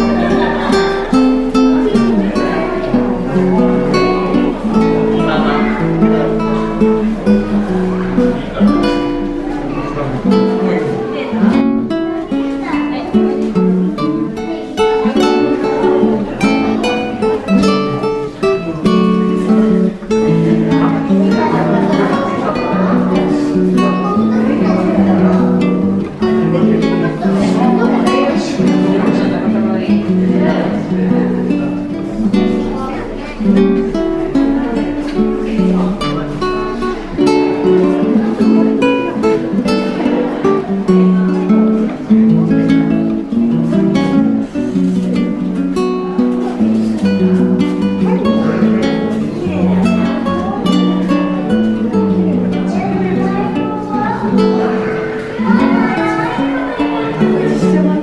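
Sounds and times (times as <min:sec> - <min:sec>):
acoustic guitar music: 0:00.0 - 0:58.0
plucked string melody: 0:00.0 - 0:58.0.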